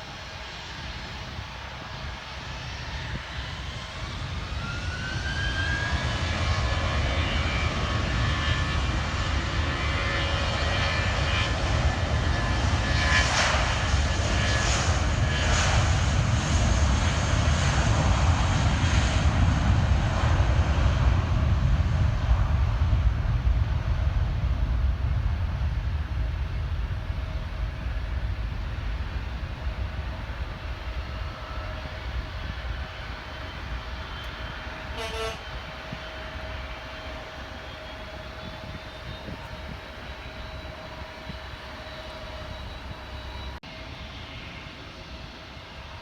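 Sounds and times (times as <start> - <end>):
jet engines whining and rumbling: 0.0 - 46.0.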